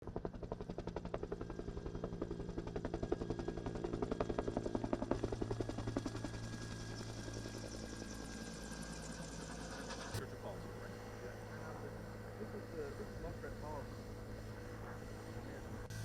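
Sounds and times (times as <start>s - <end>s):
helicopter engine drone: 0.0s - 16.0s
helicopter rotor beating: 0.0s - 16.0s.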